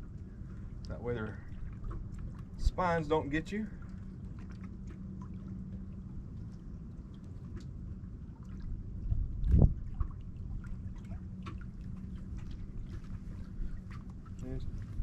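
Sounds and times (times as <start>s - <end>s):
steady low hum: 0.0s - 15.0s
water trickling and lapping: 0.0s - 15.0s.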